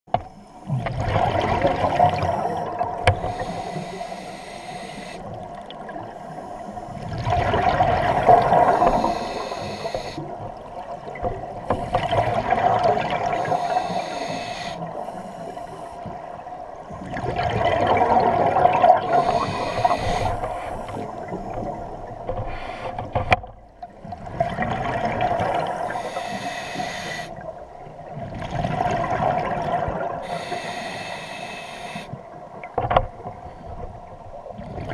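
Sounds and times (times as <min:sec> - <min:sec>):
underwater bubbles gurgling: 0:00.1 - 0:34.9.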